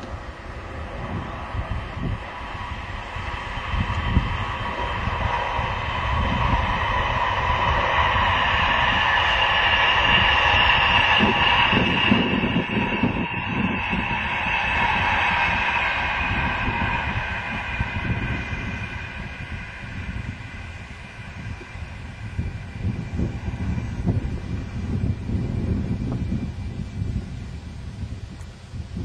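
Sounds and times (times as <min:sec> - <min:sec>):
diesel train passing: 0:00.0 - 0:29.0
wind buffeting microphone: 0:00.0 - 0:29.0.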